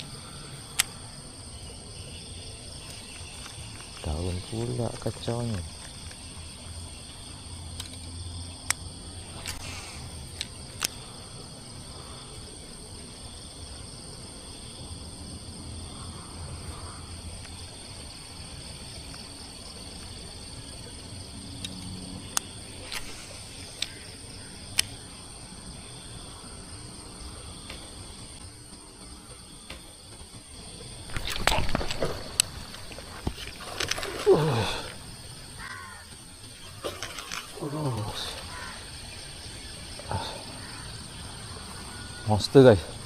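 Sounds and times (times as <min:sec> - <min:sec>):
insects buzzing: 0:00.0 - 0:43.0.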